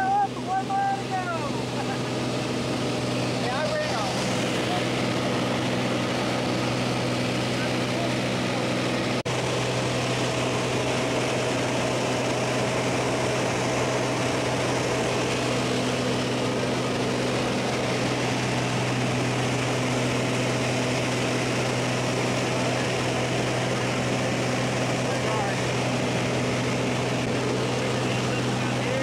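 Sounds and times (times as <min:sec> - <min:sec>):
broad rushing noise: 0:00.0 - 0:29.0
plane engine drone in cabin: 0:00.0 - 0:29.0.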